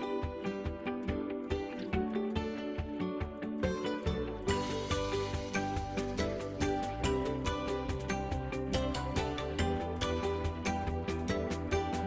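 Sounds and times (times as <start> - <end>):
plucked guitar and bass music: 0.0 - 12.0.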